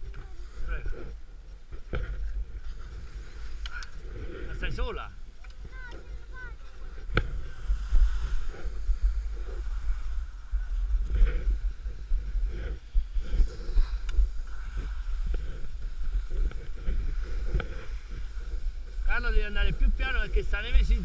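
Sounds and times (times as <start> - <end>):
skis scraping over snow: 0.0 - 21.0
wind buffeting microphone: 0.0 - 21.0.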